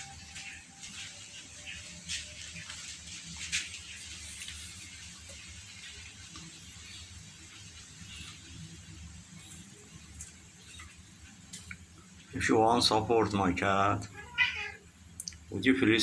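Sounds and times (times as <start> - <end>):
background hiss and rumble: 0.0 - 16.0.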